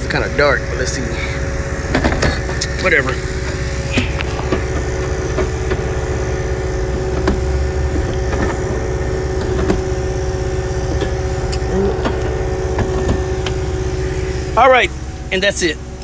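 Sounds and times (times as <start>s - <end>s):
truck idling rumble: 0.0s - 16.0s.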